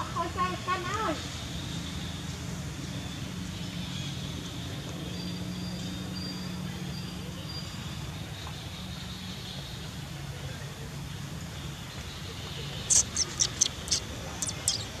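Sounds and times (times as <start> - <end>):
low engine-like hum: 0.0 - 15.0
outdoor background noise: 0.0 - 15.0.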